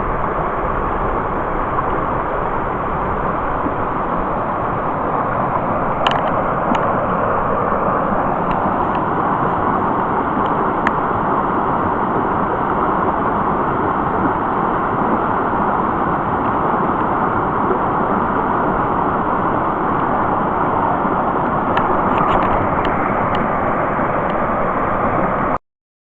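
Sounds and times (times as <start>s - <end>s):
brook water rushing: 0.0s - 25.6s.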